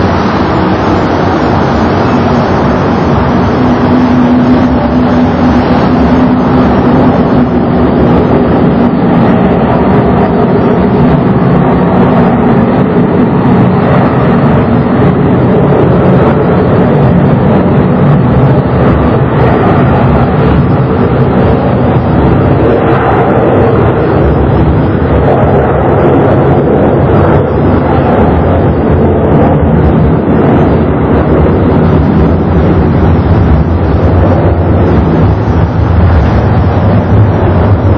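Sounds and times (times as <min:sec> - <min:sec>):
jet engines at takeoff power: 0:00.0 - 0:37.9.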